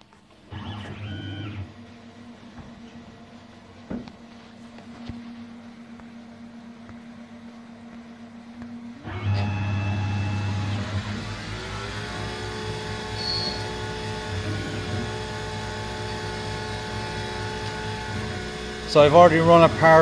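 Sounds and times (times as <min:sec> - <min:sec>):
lathe running with whining drive: 0:00.5 - 0:20.0.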